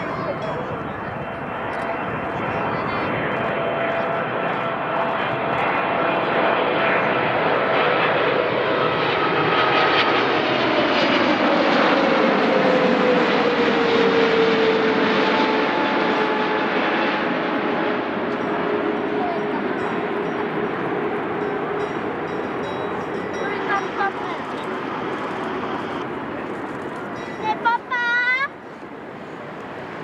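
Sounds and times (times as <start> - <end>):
jet engine whine: 0.0 - 30.0
jet engines roaring: 0.0 - 30.0.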